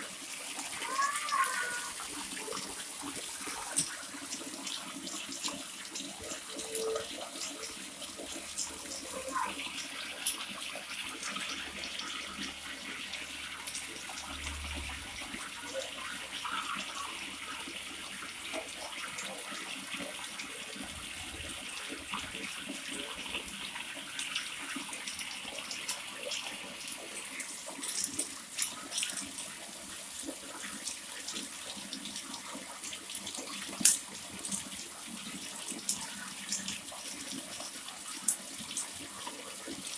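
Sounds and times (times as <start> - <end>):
water pouring from a spout: 0.0 - 39.9.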